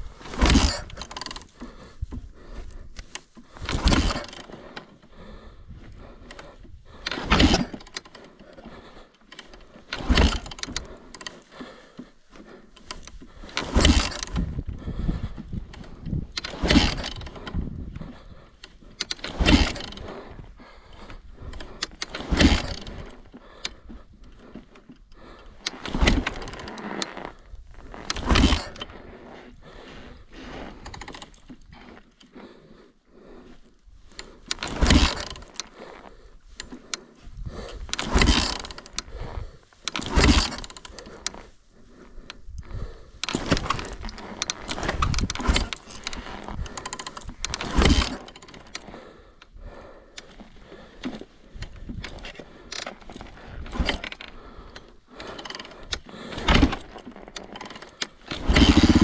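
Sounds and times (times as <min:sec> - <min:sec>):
dirt bike engine turning over: 0:00.0 - 0:59.0
dirt bike kick-starting: 0:00.0 - 0:59.0.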